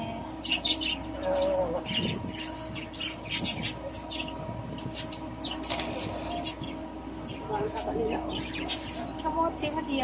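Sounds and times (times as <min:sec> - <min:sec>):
faint steady hum: 0:00.0 - 0:10.0
small birds chirping: 0:00.0 - 0:10.0.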